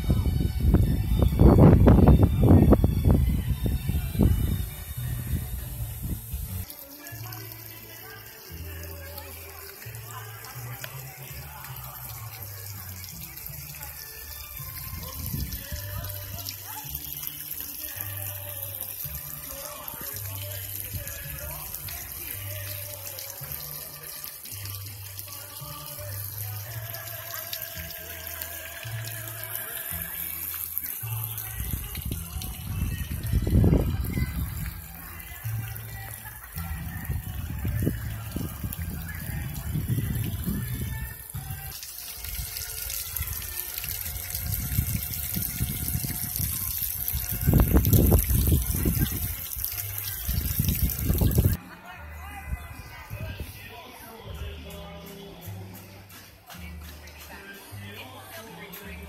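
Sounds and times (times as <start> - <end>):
music with low bass line: 0.0 - 59.0
fountain water splashing: 4.0 - 51.6.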